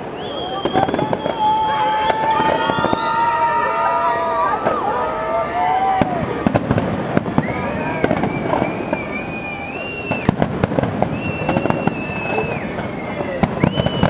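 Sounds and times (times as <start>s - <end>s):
fireworks bangs and crackling: 0.0s - 14.0s
high firework whistles: 0.0s - 14.0s.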